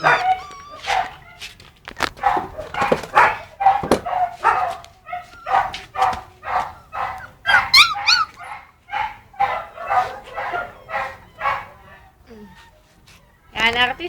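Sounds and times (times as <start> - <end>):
high arching yelps: 0.0 - 1.4, 2.2 - 13.6
puppies barking and yipping: 0.0 - 14.0.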